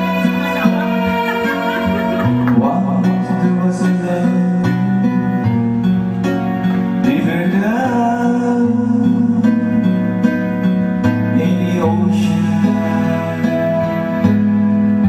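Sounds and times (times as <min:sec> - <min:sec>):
man singing a ballad: 0:00.0 - 0:05.5, 0:07.0 - 0:14.3
strummed acoustic guitar: 0:00.0 - 0:15.0.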